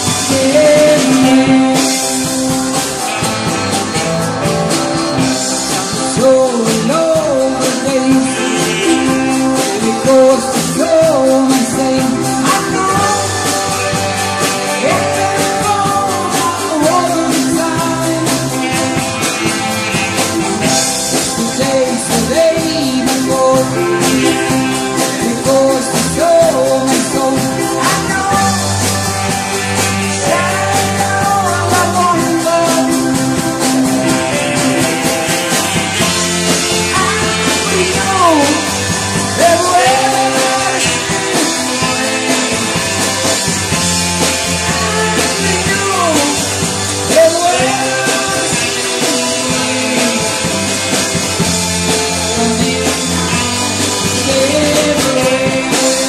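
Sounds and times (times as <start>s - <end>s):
dance band playing: 0.0s - 56.0s
lead singer singing: 0.0s - 56.0s.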